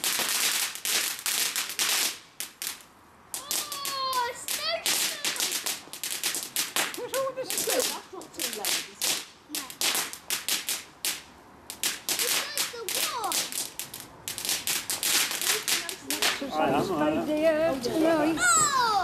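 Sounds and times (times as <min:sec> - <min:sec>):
firework crackling: 0:00.0 - 0:19.0.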